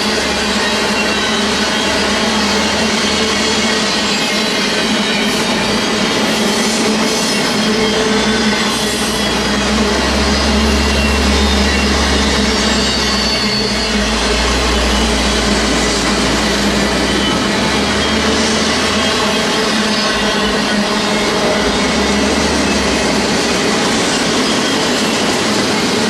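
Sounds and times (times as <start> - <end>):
deep train rumble: 0.0 - 26.0.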